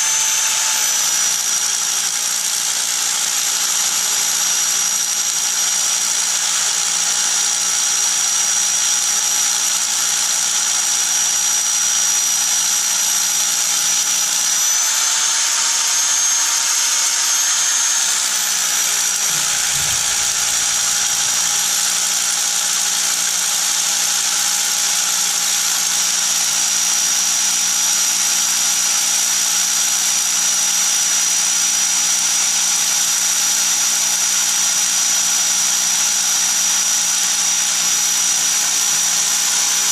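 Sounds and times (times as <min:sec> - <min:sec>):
electric drill boring into stone: 0:00.0 - 0:39.9.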